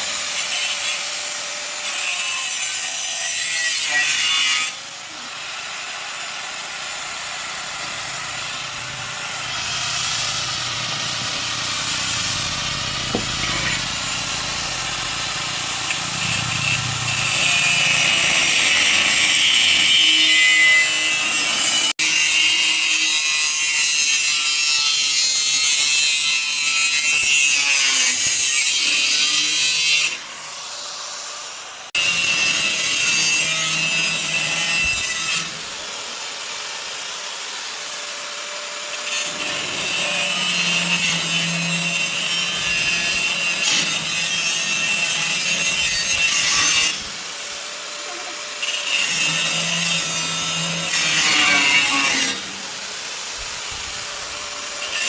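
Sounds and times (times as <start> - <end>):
power tool cutting: 0.0 - 55.0.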